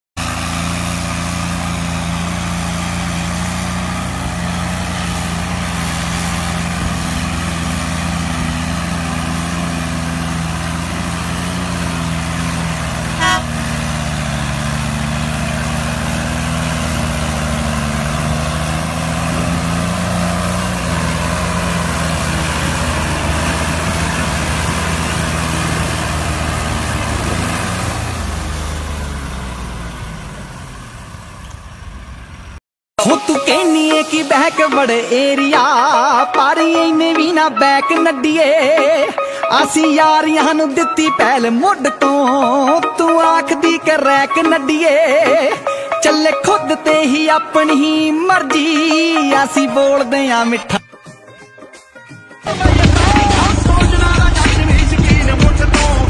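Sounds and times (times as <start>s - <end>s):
tractor diesel engines running: 0.2s - 50.8s, 52.5s - 56.0s.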